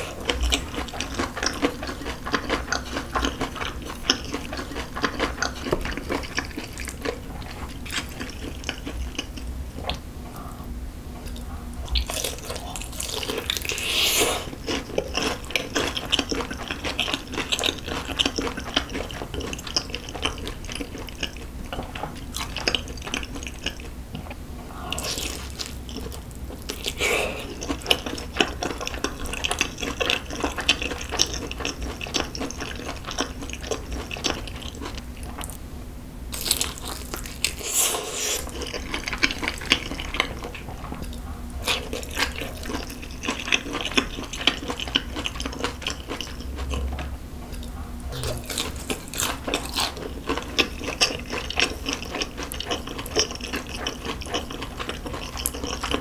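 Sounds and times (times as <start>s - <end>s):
chewing and wet mouth sounds: 0.0s - 35.6s, 36.3s - 56.0s.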